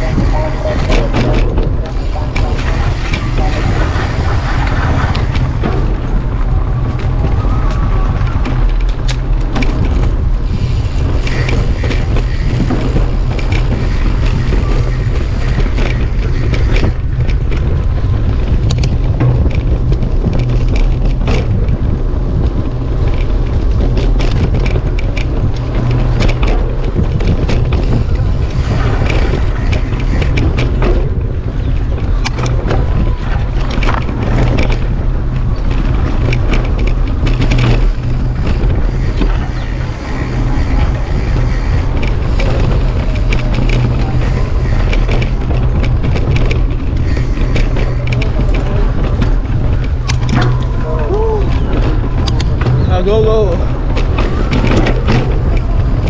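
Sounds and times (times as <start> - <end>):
bike knocks and rattles: 0.0 - 56.0
bike tyre noise on dirt: 0.0 - 56.0
wind rumble on microphone: 0.0 - 56.0.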